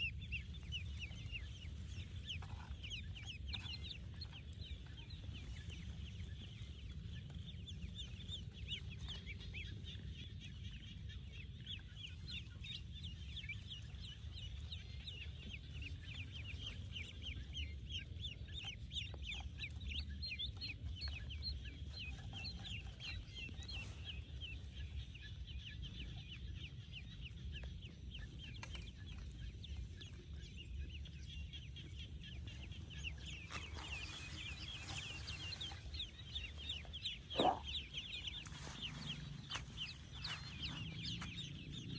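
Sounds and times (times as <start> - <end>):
ducklings peeping: 0.0 - 41.9
steady low rumble: 0.0 - 41.9.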